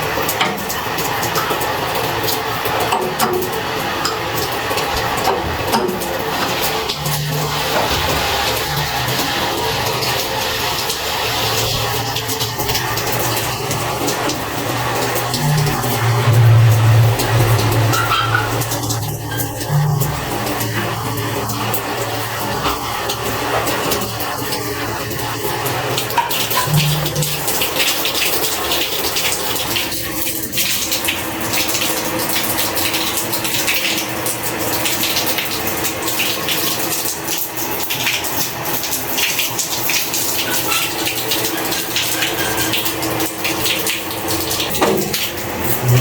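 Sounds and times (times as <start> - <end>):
water running and splashing: 0.0 - 46.0.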